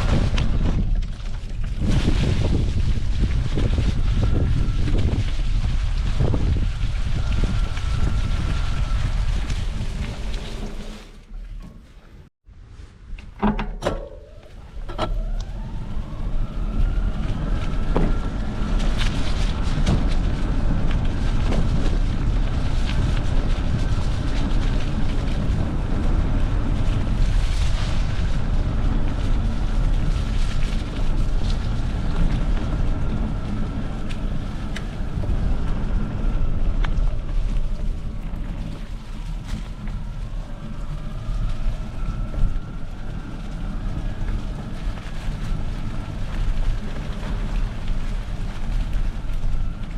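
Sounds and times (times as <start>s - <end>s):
wind buffeting microphone: 0.0s - 13.1s, 14.0s - 49.9s
tyres rumbling on forest ground: 0.0s - 49.9s.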